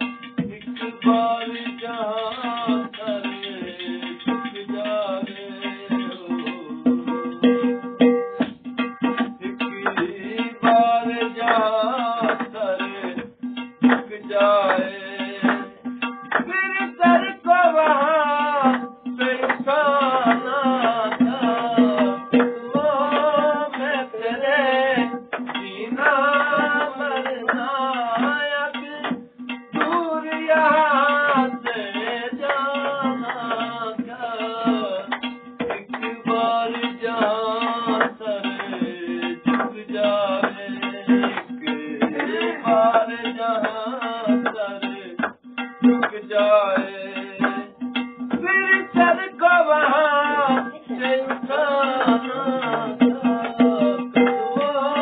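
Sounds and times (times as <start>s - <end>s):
men singing folk song: 0.0s - 7.4s, 9.4s - 55.0s
hand drumming on metal pot: 0.0s - 55.0s.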